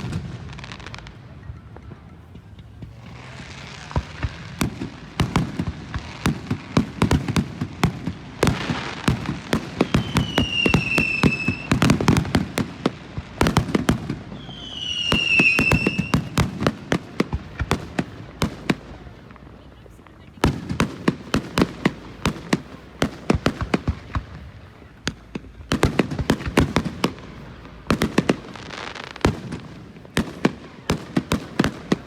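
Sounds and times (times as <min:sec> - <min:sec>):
fireworks bangs and crackling: 0:00.0 - 0:32.0
whistling fireworks: 0:00.0 - 0:32.0.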